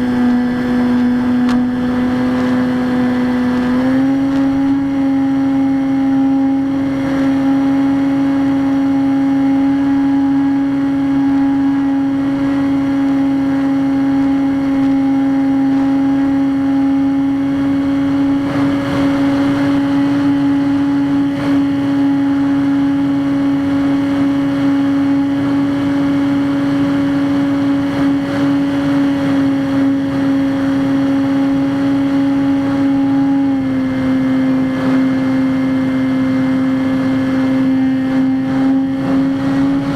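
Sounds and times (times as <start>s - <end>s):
electric motor and propeller buzzing: 0.0s - 39.9s.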